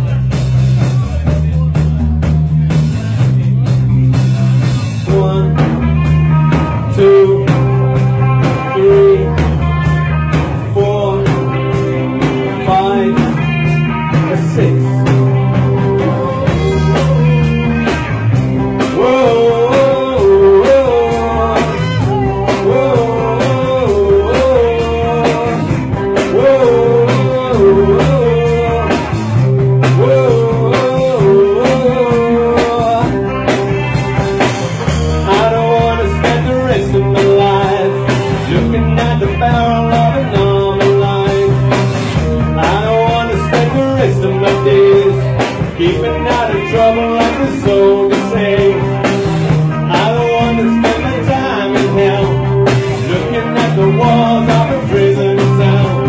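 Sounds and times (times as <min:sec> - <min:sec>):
pulsing bass guitar: 0:00.0 - 0:56.0
rock band playing: 0:00.0 - 0:56.0.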